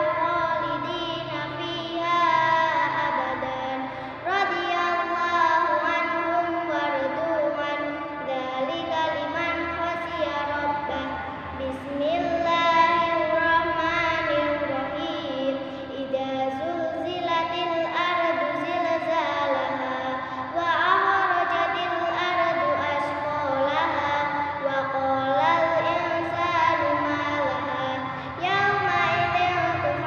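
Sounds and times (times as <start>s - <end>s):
girl singing: 0.0s - 30.0s.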